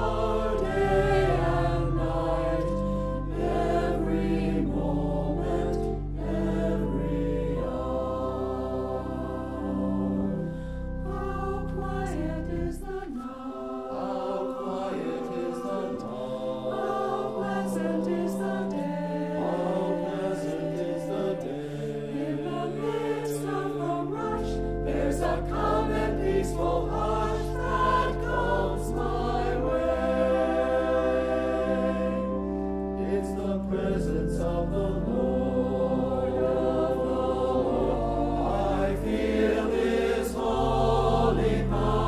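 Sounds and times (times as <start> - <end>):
choir singing sacred music: 0.0 - 42.0
sustained organ chords: 0.0 - 42.0.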